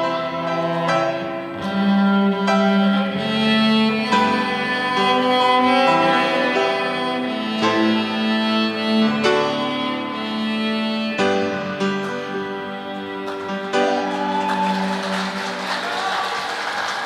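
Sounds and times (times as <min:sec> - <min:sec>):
cello playing slow melody: 0:00.0 - 0:15.6
piano accompaniment: 0:00.0 - 0:17.0.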